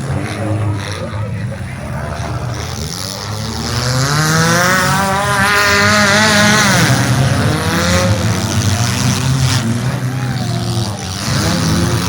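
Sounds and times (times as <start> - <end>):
car engines revving hard: 0.0 - 12.0
low rumble of engines idling: 0.0 - 12.0.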